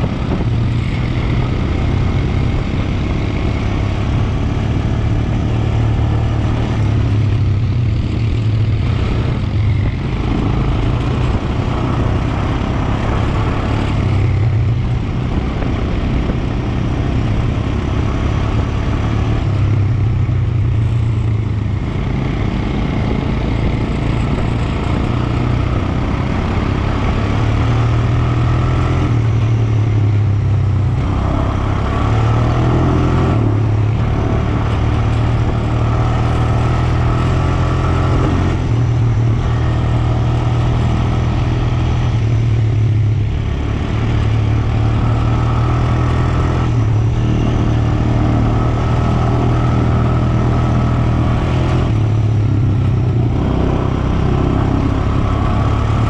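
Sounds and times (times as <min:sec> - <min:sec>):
quad bike engine running: 0:00.0 - 0:56.0
rushing wind noise: 0:00.0 - 0:56.0.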